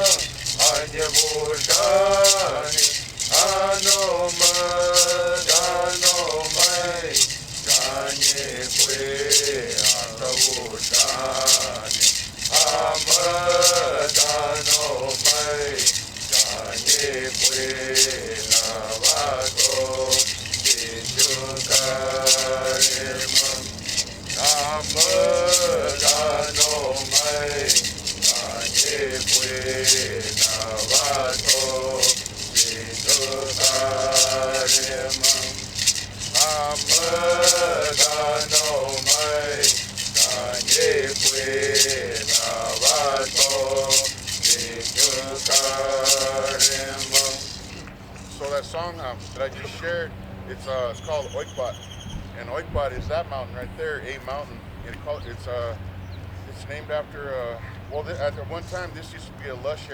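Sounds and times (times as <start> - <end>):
hand rattle shaken: 0.0 - 49.9
person singing chant-like song: 0.0 - 50.0.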